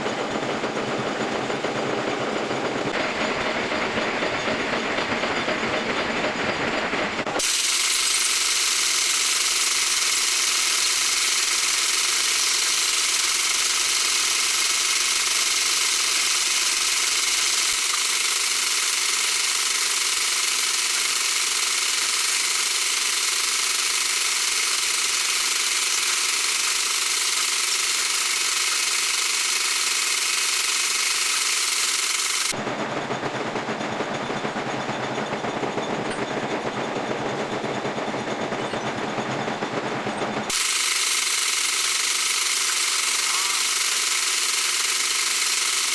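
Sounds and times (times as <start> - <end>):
low rough machine noise: 0.0 - 26.5, 32.5 - 40.8, 41.7 - 45.9
metal lathe machining steel: 0.0 - 45.9.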